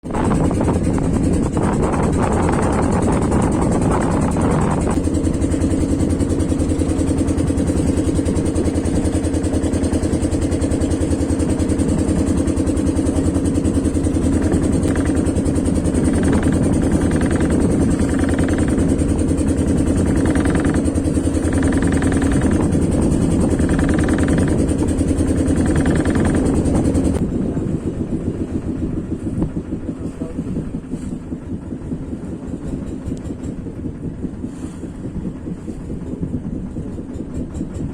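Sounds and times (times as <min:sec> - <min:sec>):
boat engine humming: 0:00.0 - 0:37.9.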